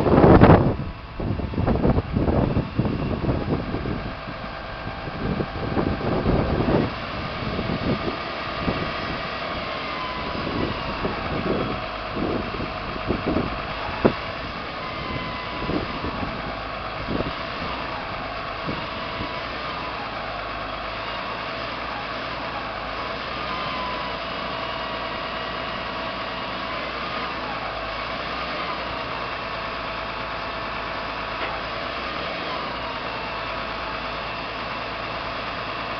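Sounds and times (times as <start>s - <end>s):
hydraulics whining: 0.0s - 35.9s
truck engine running: 0.0s - 35.9s.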